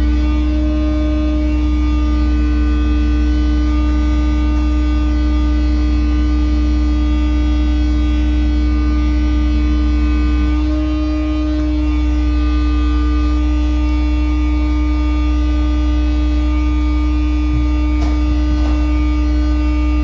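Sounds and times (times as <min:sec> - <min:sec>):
machinery drone: 0:00.0 - 0:20.0
whining tone: 0:00.0 - 0:20.0.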